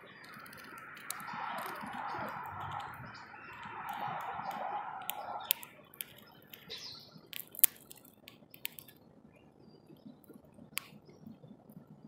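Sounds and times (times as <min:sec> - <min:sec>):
bird chirp: 0:00.0 - 0:12.0
steady hushing noise: 0:00.0 - 0:12.0.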